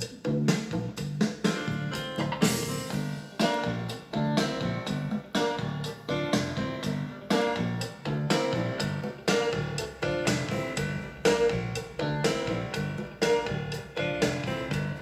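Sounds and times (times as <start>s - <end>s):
drum kit beat: 0.0s - 15.0s
guitar: 0.0s - 15.0s
recorded band music: 0.0s - 15.0s.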